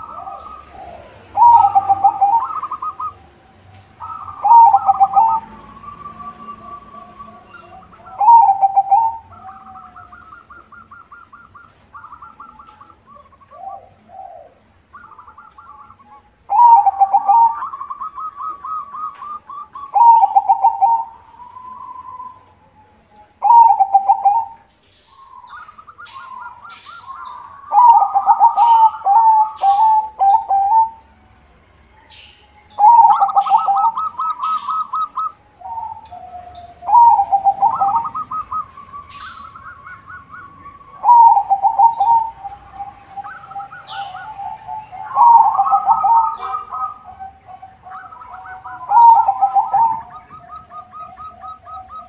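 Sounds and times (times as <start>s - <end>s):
dove cooing: 0.0s - 31.2s, 32.0s - 52.0s
small birds chirping: 0.0s - 31.2s, 31.9s - 52.0s.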